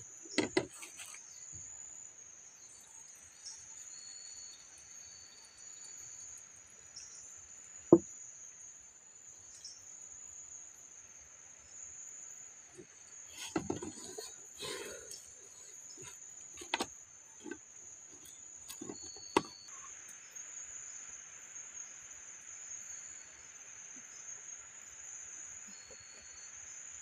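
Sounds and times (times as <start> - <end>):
insects buzzing with high whine: 0.0 - 27.0
lower insect chorus: 0.0 - 27.0.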